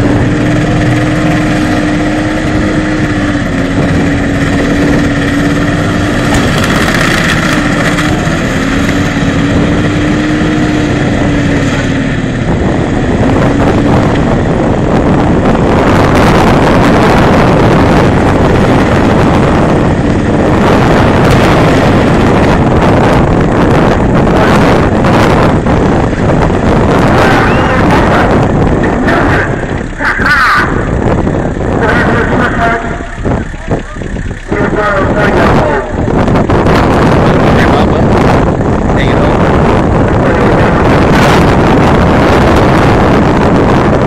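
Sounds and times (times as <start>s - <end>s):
tyres spinning: 0.0s - 41.1s
car engine at high revs: 0.0s - 44.0s
loud rushing noise: 0.0s - 44.0s
wind on microphone: 0.0s - 44.0s.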